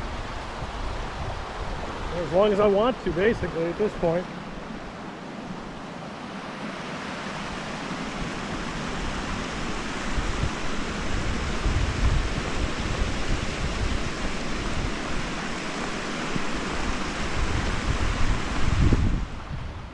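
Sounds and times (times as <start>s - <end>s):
mountain stream rushing: 0.0s - 19.9s
wind buffeting microphone: 0.0s - 19.9s.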